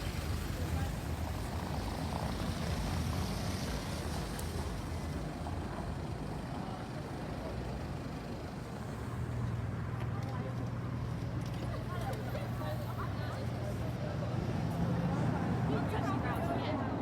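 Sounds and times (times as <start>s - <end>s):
traffic engines rumbling: 0.0s - 17.0s.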